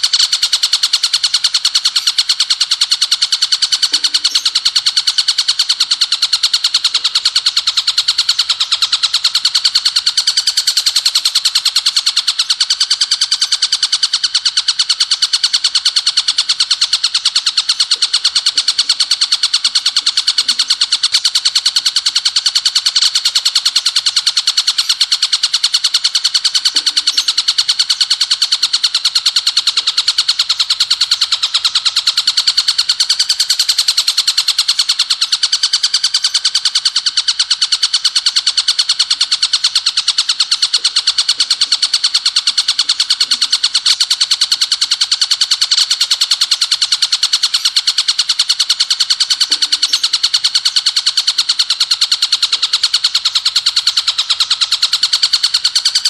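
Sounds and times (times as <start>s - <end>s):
bird trilling fast chirps: 0.0s - 56.0s.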